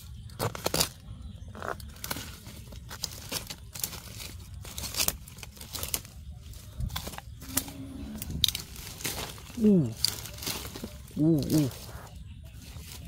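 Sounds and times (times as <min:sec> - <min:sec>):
hands rummaging dry plant debris: 0:00.0 - 0:13.0.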